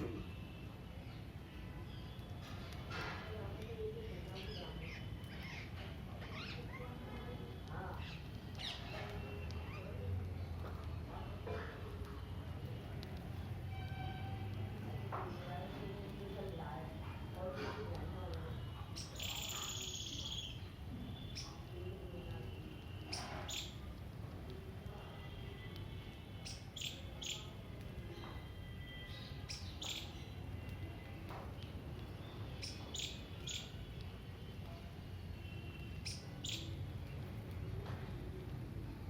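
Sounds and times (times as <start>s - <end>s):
small birds chirping: 0.1s - 2.8s, 3.4s - 10.9s, 14.9s - 24.1s, 25.2s - 37.7s.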